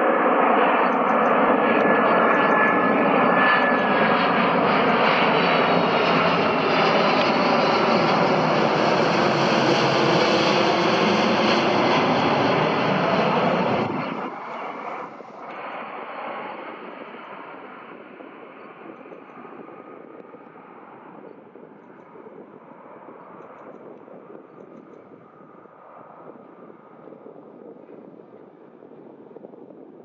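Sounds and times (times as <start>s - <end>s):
jet engines roaring overhead: 0.0s - 30.0s.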